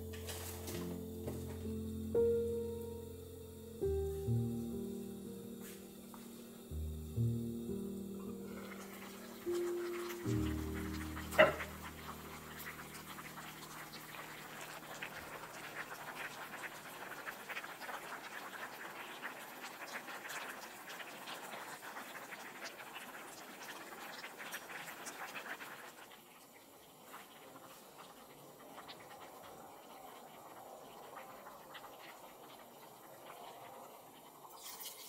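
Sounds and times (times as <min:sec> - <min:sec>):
broth boiling in a pot: 0:00.0 - 0:35.0.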